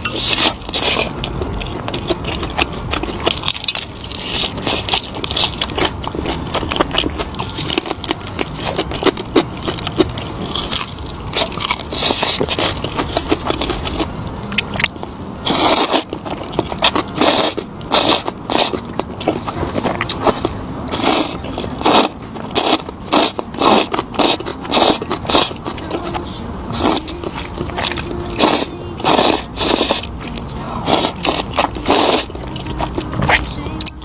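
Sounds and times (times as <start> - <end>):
person chewing and crunching: 0.0 - 34.0.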